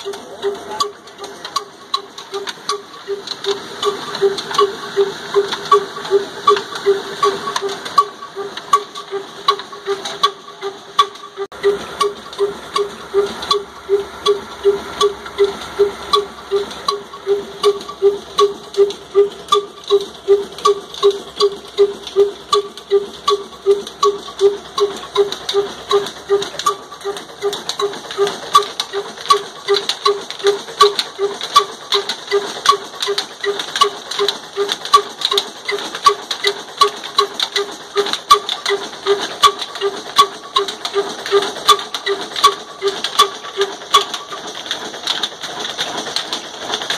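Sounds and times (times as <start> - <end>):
flour mill running: 0.0 - 46.9
single-cylinder diesel engine running: 0.0 - 46.9.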